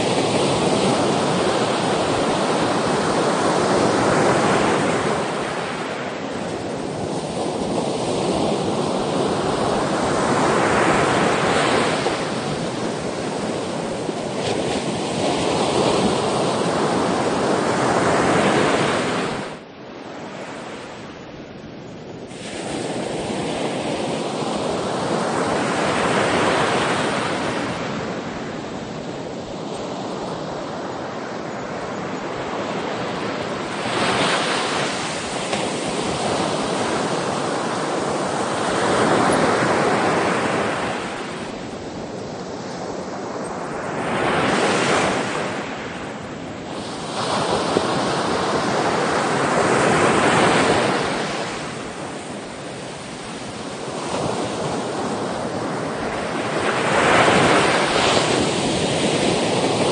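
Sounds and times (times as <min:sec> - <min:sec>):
sea waves breaking on shore: 0:00.0 - 0:21.6, 0:22.2 - 0:59.9.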